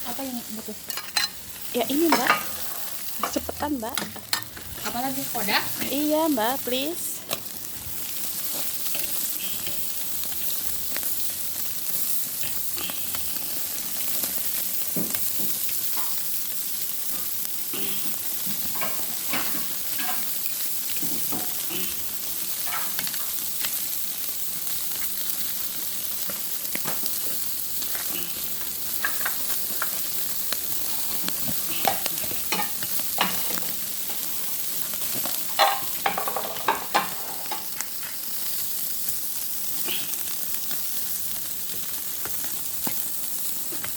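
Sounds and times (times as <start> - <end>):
seafood sizzling on a grill: 0.0 - 43.9.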